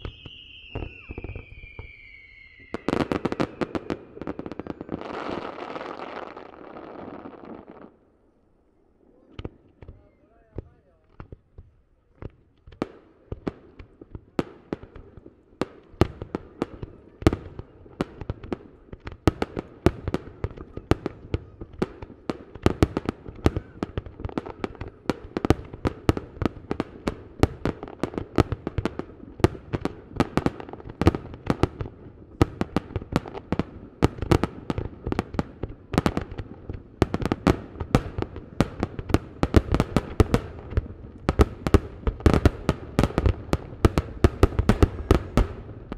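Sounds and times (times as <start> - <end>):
distant fireworks booming: 0.0 - 8.1, 9.0 - 45.9.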